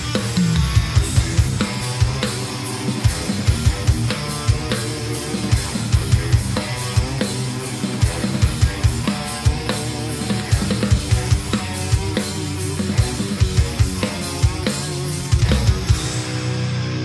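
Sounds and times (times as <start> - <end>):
acoustic drum kit playing: 0.0 - 17.0
distorted metal guitar track: 0.0 - 17.0.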